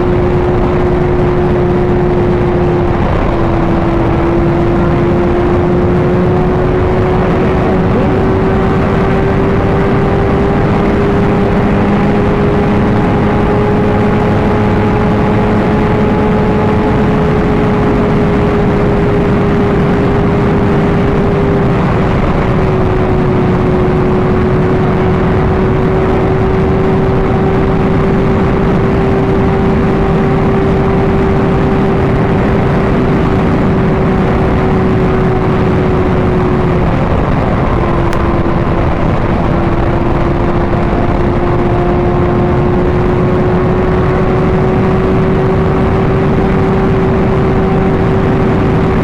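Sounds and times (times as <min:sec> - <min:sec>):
motorcycle engine cruising: 0:00.0 - 0:49.0
wind rush on microphone: 0:00.0 - 0:49.0.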